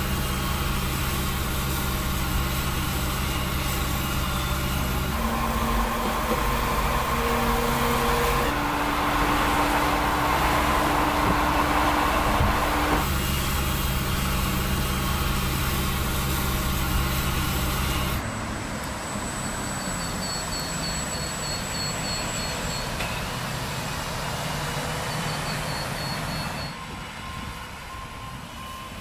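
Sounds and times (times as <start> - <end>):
distant road sound: 0.0 - 29.0
truck humming with tyre noise: 0.0 - 29.0.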